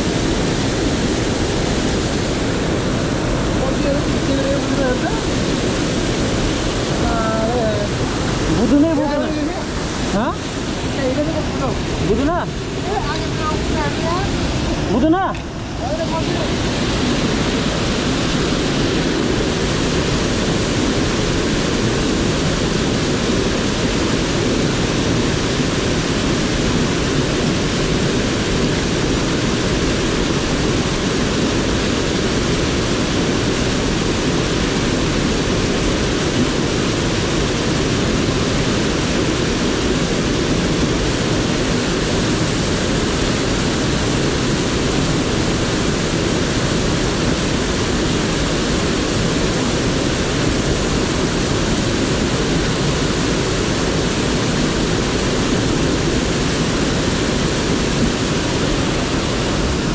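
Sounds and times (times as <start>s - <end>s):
whitewater rushing: 0.0s - 59.9s.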